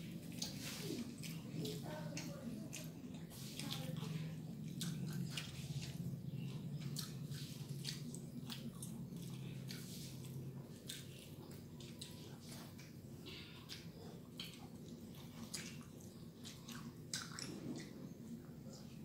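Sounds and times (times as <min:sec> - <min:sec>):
children chewing and lip smacking: 0:00.0 - 0:19.0
low steady hum: 0:00.0 - 0:19.0.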